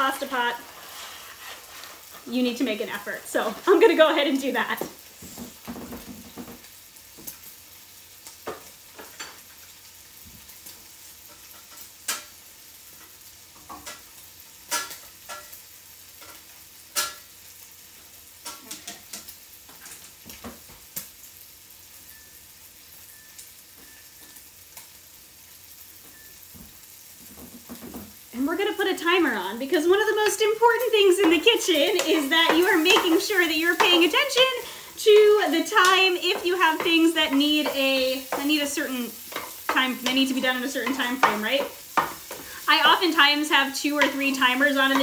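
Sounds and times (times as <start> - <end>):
meat sizzling in a skillet: 0.0 - 45.0.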